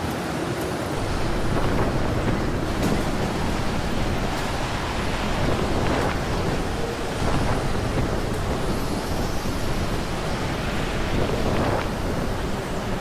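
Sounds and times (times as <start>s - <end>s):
strong wind buffeting microphone: 0.8s - 13.0s.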